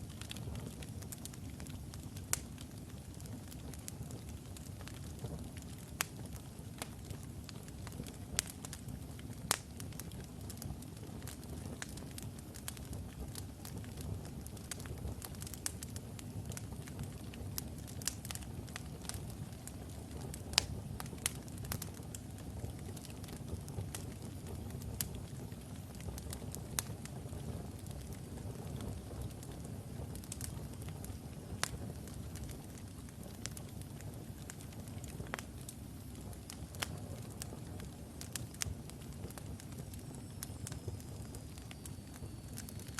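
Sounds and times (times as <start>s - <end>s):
logs crackling and popping: 0.0s - 42.9s
rumble of flames: 0.0s - 42.9s.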